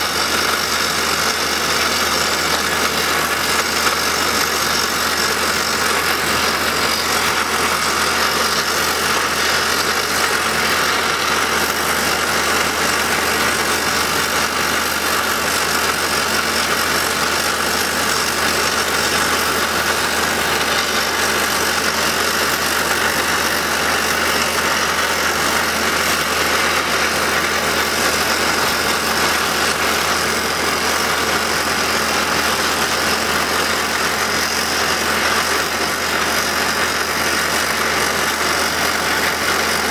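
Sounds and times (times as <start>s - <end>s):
hydraulic rock drill hammering: 0.0s - 39.9s
rig engine running: 0.0s - 39.9s.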